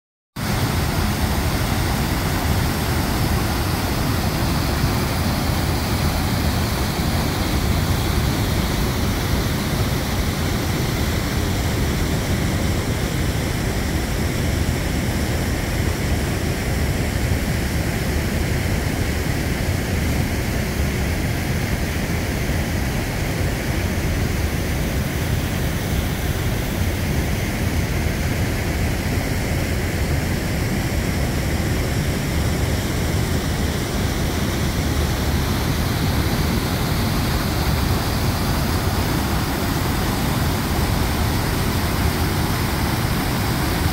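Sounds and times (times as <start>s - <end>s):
river rushing over rapids: 0.4s - 43.9s.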